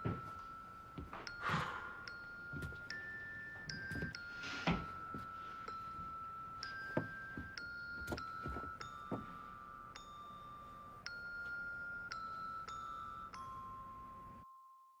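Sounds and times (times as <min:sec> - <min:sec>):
held bell-like notes: 0:00.0 - 0:15.0.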